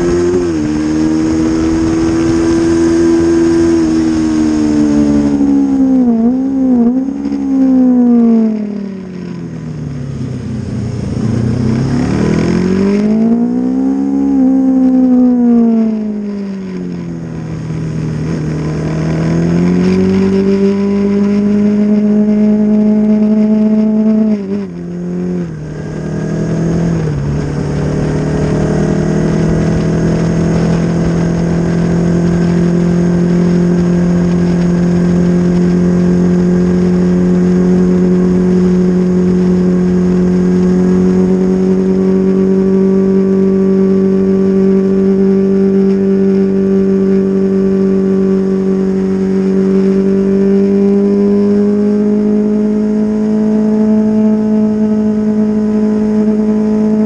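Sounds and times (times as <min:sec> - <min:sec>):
wind rush: 0:00.0 - 0:23.2, 0:24.3 - 0:51.6
motorcycle engine at high revs: 0:00.0 - 0:57.0.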